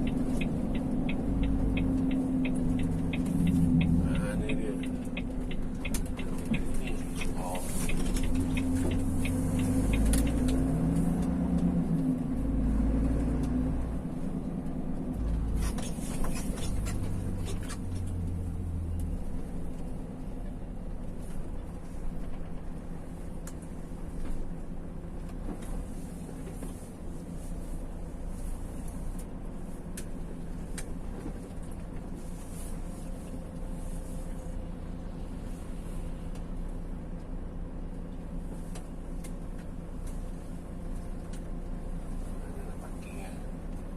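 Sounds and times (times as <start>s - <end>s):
car engine and road hum: 0.0s - 43.9s.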